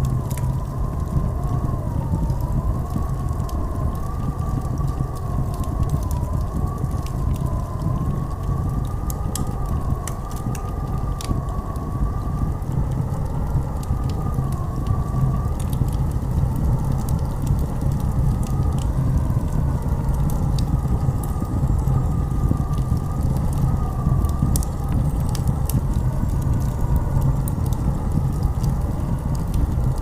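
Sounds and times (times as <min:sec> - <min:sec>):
blizzard wind howling: 0:00.0 - 0:30.0
faint crackles: 0:00.0 - 0:30.0.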